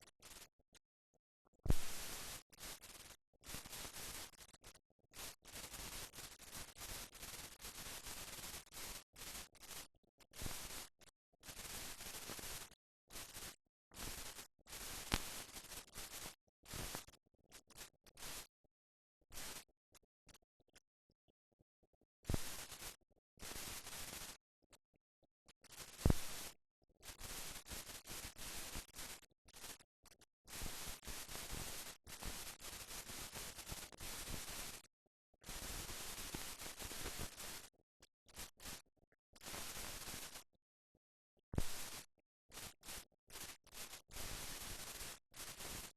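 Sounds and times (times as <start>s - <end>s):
film soundtrack hiss and crackle: 0.0s - 0.5s, 1.7s - 18.5s, 19.3s - 19.7s, 22.2s - 24.4s, 25.6s - 37.7s, 38.3s - 38.8s, 39.4s - 40.5s, 41.6s - 45.9s.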